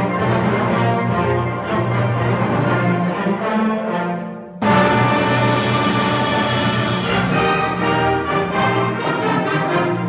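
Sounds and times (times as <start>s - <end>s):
wind band playing: 0.0s - 10.0s.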